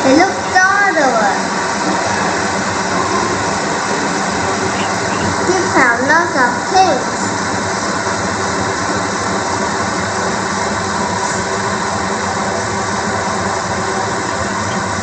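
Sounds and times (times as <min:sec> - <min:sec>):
steady rumble and hiss: 0:00.0 - 0:15.0.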